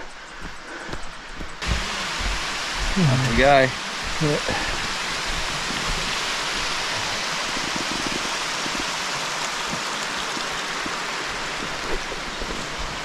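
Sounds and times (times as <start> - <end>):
flowing water rushing: 1.3 - 13.0.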